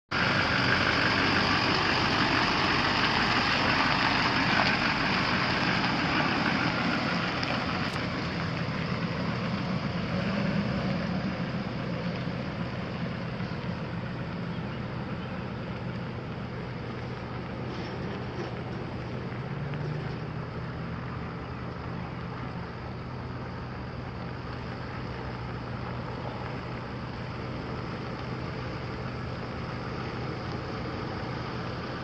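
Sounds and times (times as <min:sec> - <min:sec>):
diesel engine idling: 0:00.1 - 0:32.0.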